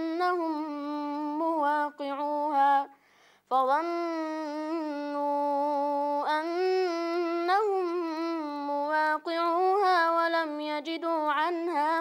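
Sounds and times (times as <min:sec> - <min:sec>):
boy reciting melodically: 0:00.0 - 0:12.0.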